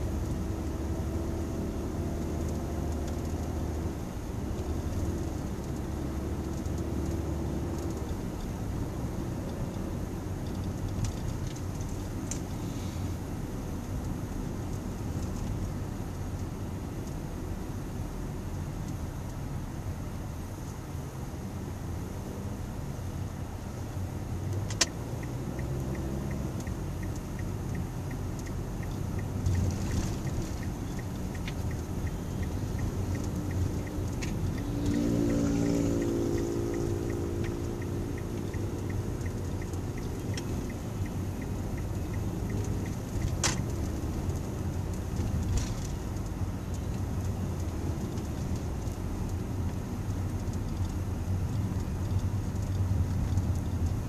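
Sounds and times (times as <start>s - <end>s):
car engine and road noise: 0.0s - 54.0s
light regular ticking: 0.1s - 20.8s, 23.0s - 54.0s.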